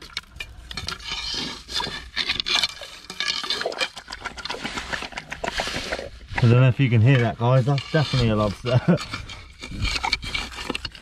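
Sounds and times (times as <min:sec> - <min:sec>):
stick scratching sand and gravel: 0:00.0 - 0:11.0.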